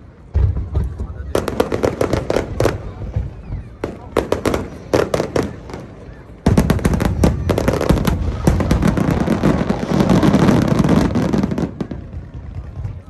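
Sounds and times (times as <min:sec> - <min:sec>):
fireworks bangs: 0:00.0 - 0:13.0
fireworks rapid crackle: 0:00.3 - 0:13.0.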